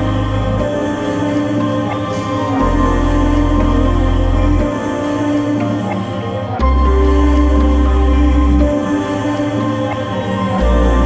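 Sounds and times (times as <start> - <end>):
deep bass drone: 0.0 - 5.9, 6.6 - 9.9, 10.6 - 11.0
sustained music chords: 0.0 - 11.0.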